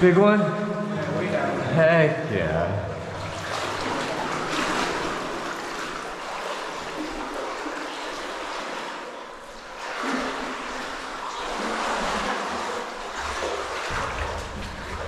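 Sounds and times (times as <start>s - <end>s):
water sloshing from wading: 2.8s - 15.0s.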